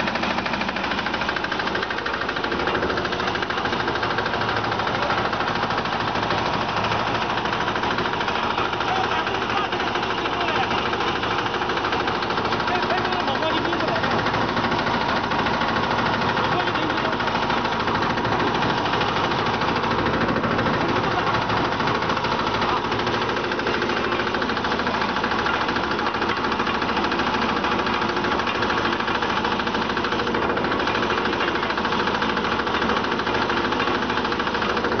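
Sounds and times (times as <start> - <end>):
concrete mixer running: 0.0 - 35.0
fast fine rattle: 0.0 - 35.0.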